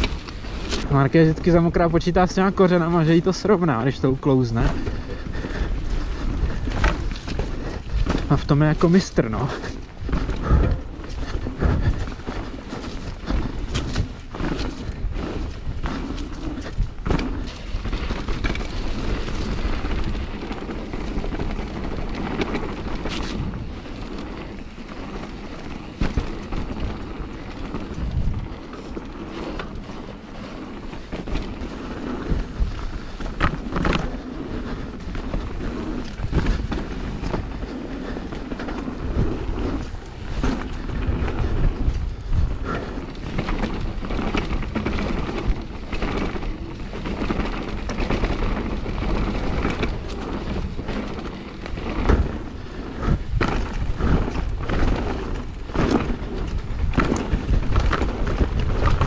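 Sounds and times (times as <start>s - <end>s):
bike rattling: 0.0s - 59.0s
tyres rumbling on wet dirt: 0.0s - 59.0s
wind buffeting microphone: 0.0s - 59.0s
bike knocking over bumps: 9.7s - 59.0s.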